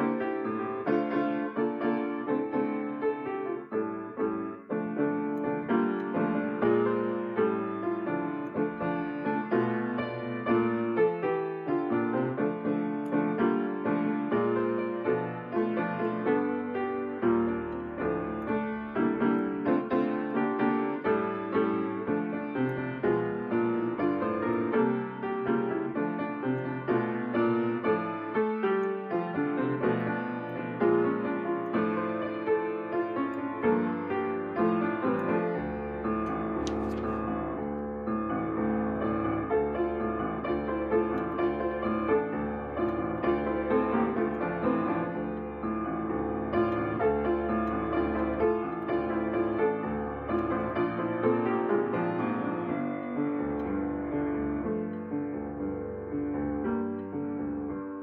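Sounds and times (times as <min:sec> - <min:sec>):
solo piano: 0:00.0 - 0:58.0.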